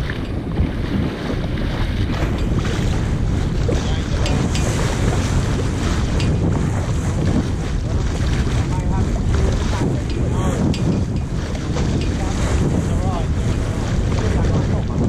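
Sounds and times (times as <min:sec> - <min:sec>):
water splashing along hull: 0:00.0 - 0:15.0
wind buffeting microphone: 0:00.0 - 0:15.0.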